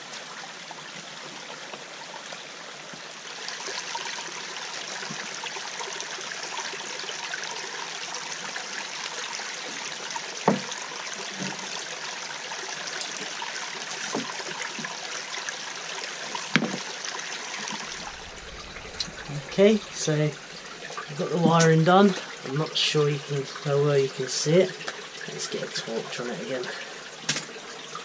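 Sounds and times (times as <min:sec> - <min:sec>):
woodland stream running: 0:00.0 - 0:28.0.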